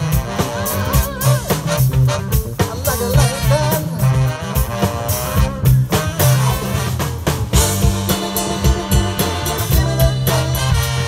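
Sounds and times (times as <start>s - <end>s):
live funk band playing: 0.0s - 11.0s.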